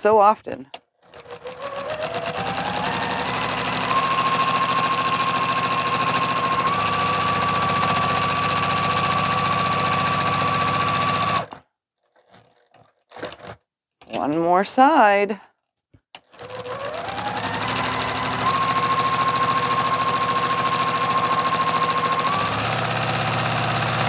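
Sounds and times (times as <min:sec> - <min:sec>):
sewing machine stitching: 0:01.0 - 0:13.6, 0:16.2 - 0:24.0.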